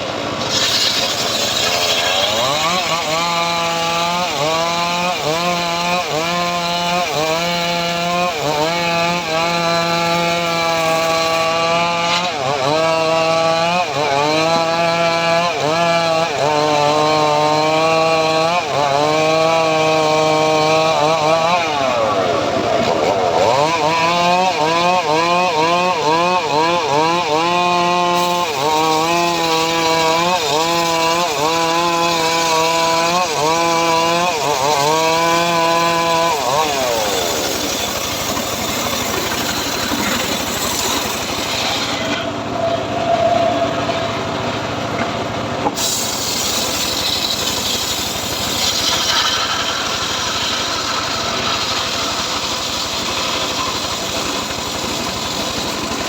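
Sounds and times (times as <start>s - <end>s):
saw cutting wood: 0.0s - 56.0s.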